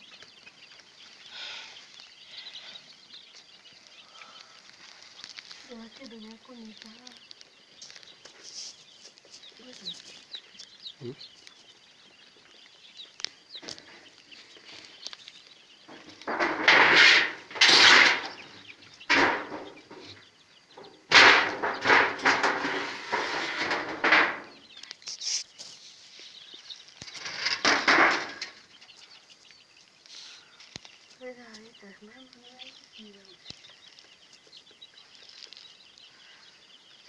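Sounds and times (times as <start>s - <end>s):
chicks peeping: 0.0s - 37.0s.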